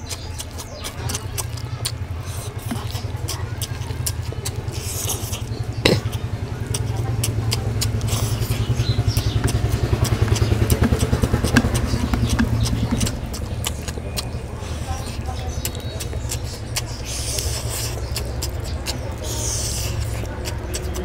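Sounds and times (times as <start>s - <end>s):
steady low rumble: 0.0s - 21.0s
wet chewing clicks and smacks: 0.0s - 21.0s.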